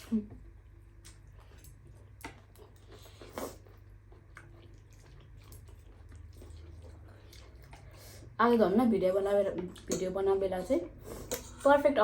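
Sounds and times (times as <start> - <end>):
soft chewing with smacks: 0.0 - 8.4, 9.5 - 11.7
low steady hum: 0.0 - 12.0.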